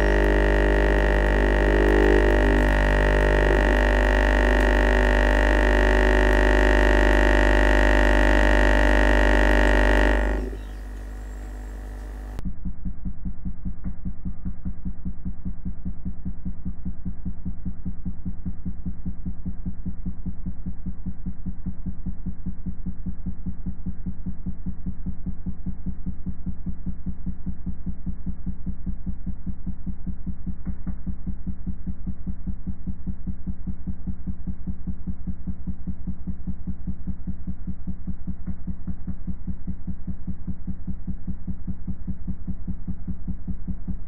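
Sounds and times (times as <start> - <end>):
pulsing low hum: 0.0 - 44.0.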